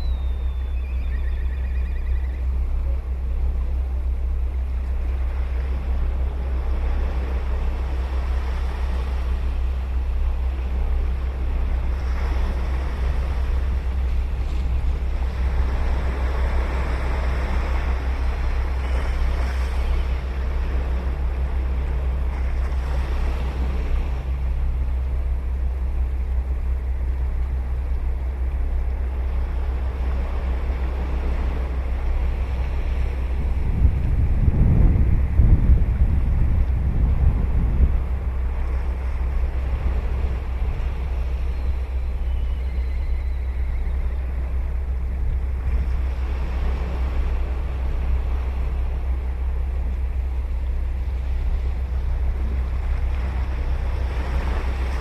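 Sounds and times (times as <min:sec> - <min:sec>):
wind rumble on microphone: 0:00.0 - 0:55.0
ocean surf breaking: 0:01.2 - 0:55.0.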